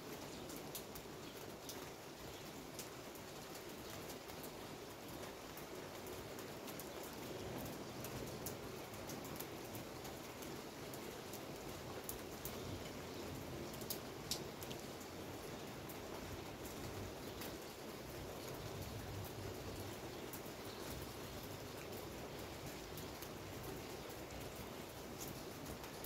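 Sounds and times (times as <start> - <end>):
steady rain hiss: 0.0 - 26.0
raindrops ticking: 0.1 - 26.0.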